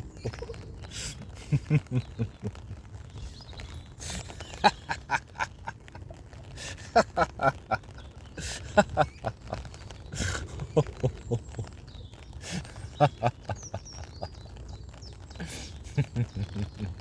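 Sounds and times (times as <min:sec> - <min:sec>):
man laughing rhythmically: 0:00.2 - 0:02.8, 0:04.0 - 0:11.7, 0:12.4 - 0:14.4, 0:15.4 - 0:17.0.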